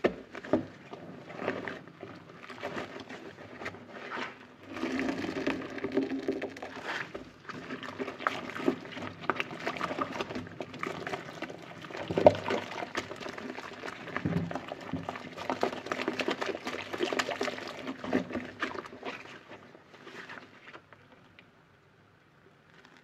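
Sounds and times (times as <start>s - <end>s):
sponge squelching in soapy water: 0.7s - 20.9s.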